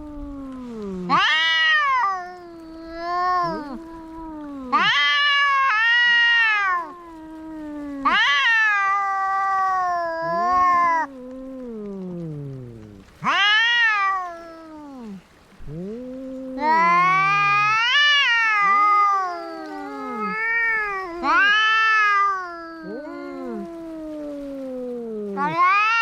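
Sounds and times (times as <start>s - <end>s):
cats yowling in a fight: 0.0s - 26.0s.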